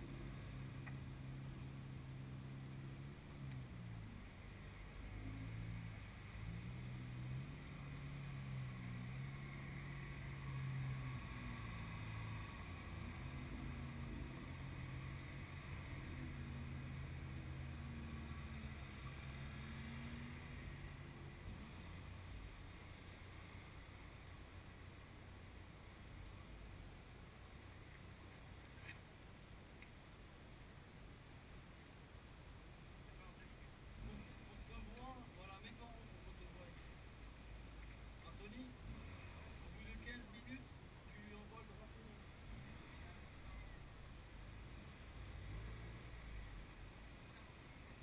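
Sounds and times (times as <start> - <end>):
car engines idling: 0.0 - 48.0.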